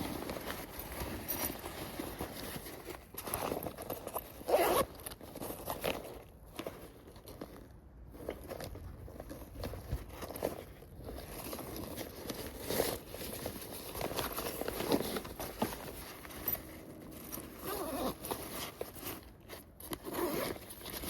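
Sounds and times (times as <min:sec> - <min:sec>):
backpack fabric rustling: 0:00.0 - 0:21.0
zipper sounds: 0:00.0 - 0:21.0.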